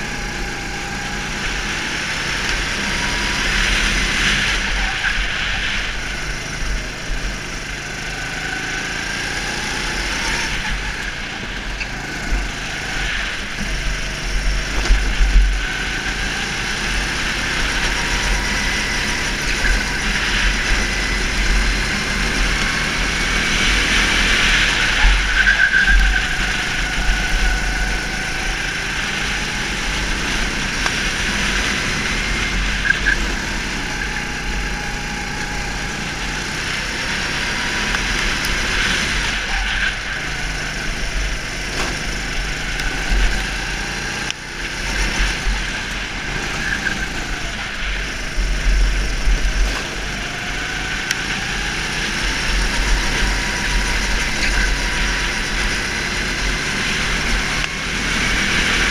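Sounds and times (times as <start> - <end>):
go-kart engine accelerating and slowing: 0.0 - 58.9.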